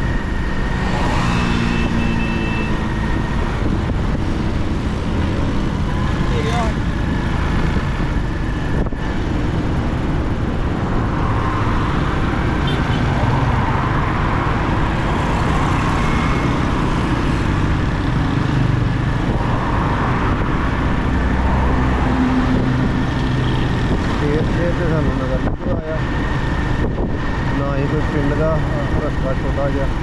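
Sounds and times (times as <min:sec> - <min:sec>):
road traffic noise: 0:00.0 - 0:30.0.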